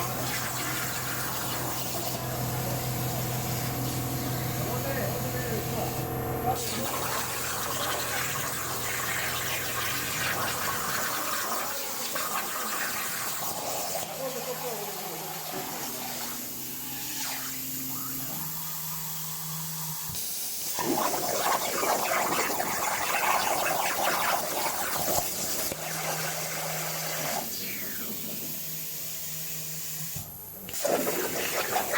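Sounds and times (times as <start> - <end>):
plasma torch hissing: 0.0 - 18.6, 20.1 - 28.9, 30.0 - 31.9.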